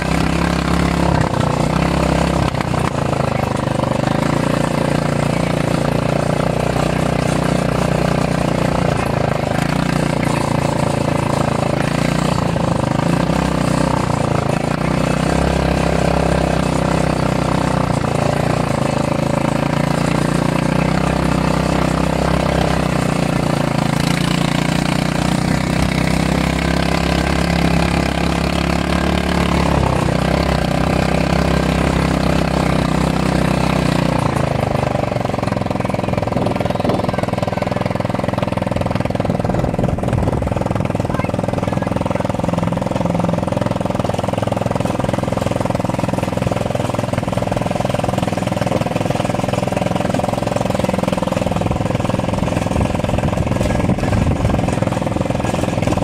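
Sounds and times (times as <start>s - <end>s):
atv engines running: 0.0s - 56.0s.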